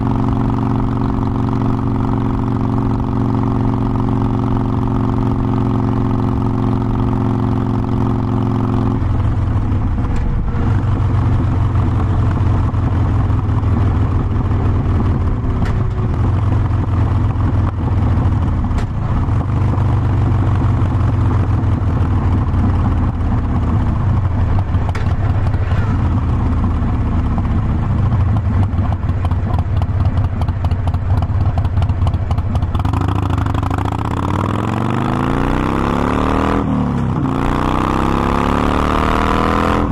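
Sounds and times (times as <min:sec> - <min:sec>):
motorcycle engine idling and accelerating: 0:00.0 - 0:39.9.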